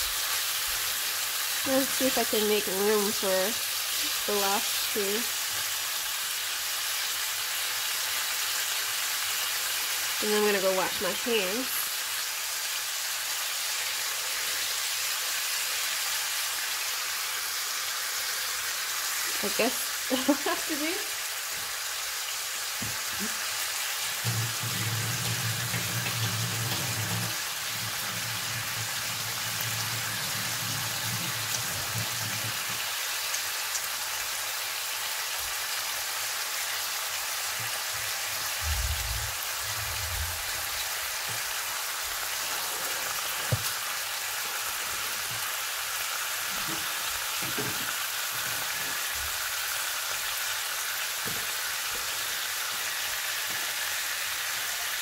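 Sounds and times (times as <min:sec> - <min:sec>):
bacon sizzling in a pan: 0:00.0 - 0:55.0.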